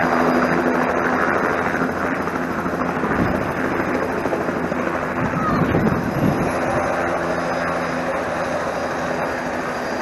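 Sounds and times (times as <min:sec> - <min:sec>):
helicopter rotor and turbine hum: 0:00.0 - 0:10.0.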